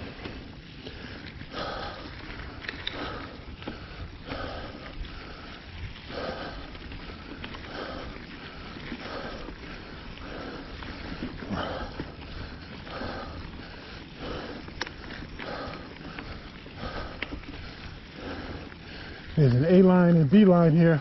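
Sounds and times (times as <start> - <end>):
man panting: 0.9 - 19.7.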